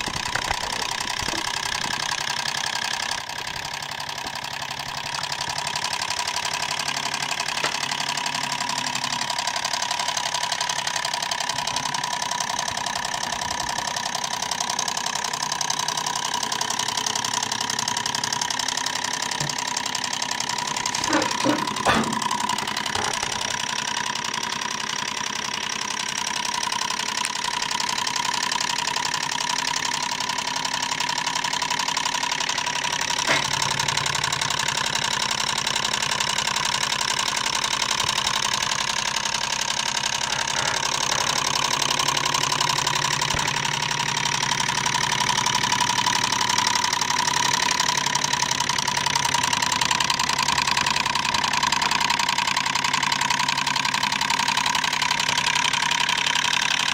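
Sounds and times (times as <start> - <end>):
engine mechanical clatter: 0.0 - 56.9.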